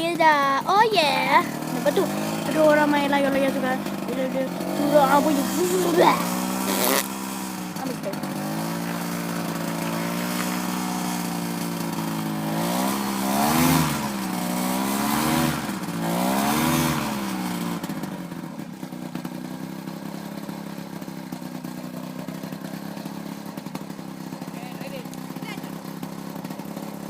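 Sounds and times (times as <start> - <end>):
paramotor engine revving: 0.0 - 27.0.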